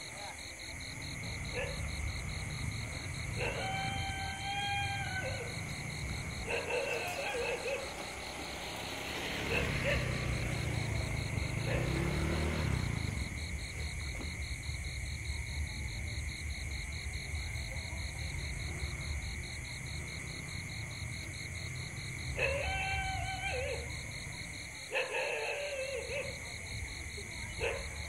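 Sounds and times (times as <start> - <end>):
night insects chirping: 0.0 - 28.0.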